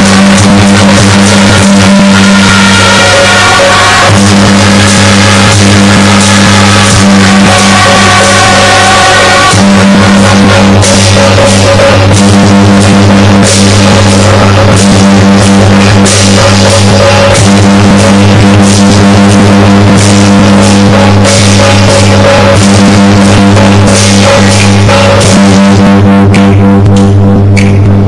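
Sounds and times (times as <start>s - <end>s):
loud distorted music: 0.0s - 28.0s
pounding drums: 0.0s - 28.0s
steady low drone: 0.0s - 28.0s.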